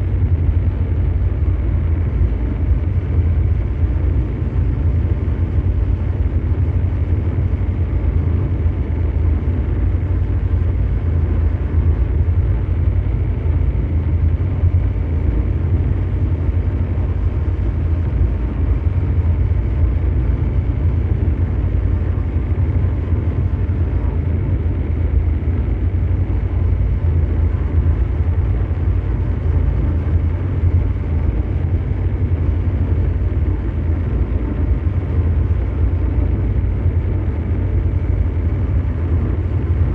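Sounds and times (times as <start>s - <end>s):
deep mechanical drone: 0.0s - 39.9s.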